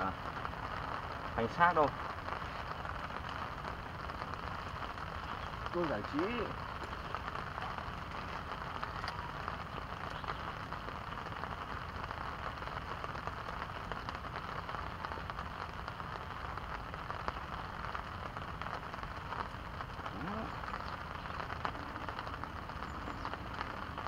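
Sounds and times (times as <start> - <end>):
rain falling on a pond: 0.0 - 24.0.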